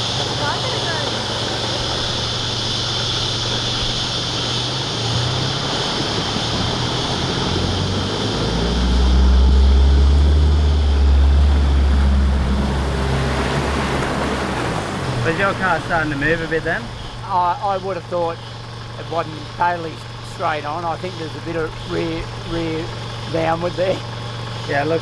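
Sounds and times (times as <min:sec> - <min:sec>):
vehicle engine running under load: 0:00.0 - 0:25.0
water rushing and sloshing: 0:00.0 - 0:25.0.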